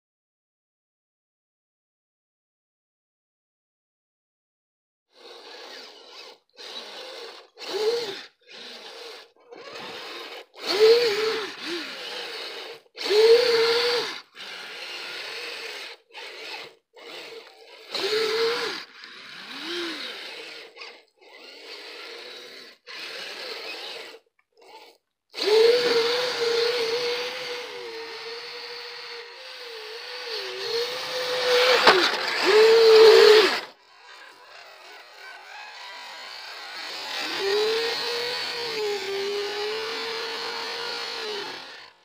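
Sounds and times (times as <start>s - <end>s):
electric motors whining: 5.2s - 42.0s.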